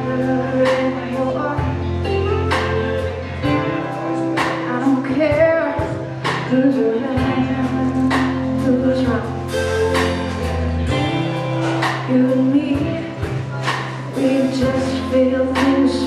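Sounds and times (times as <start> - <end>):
woman singing: 0.0 - 11.0, 11.8 - 16.0
live band playing: 0.0 - 16.0.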